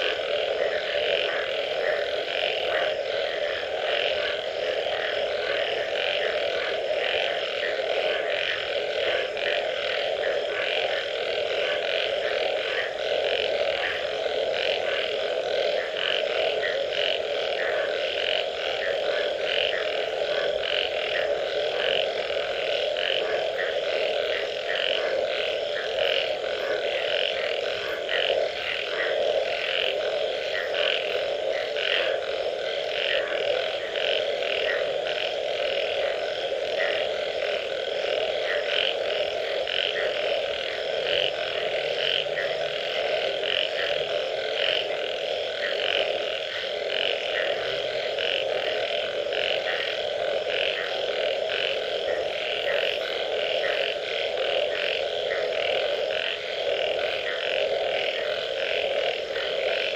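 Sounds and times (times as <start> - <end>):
frogs croaking drone: 0.0 - 59.9
high repeated frog calls: 0.0 - 59.9.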